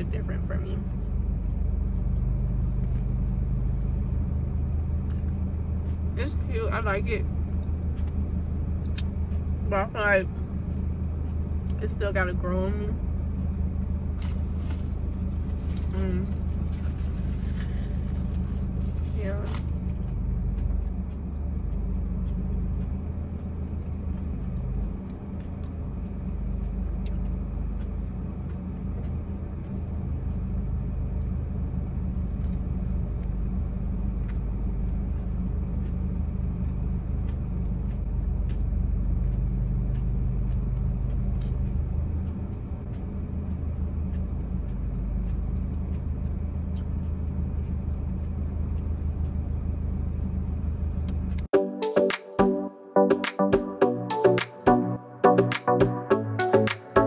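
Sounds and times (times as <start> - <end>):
car cabin road rumble: 0.0 - 51.5.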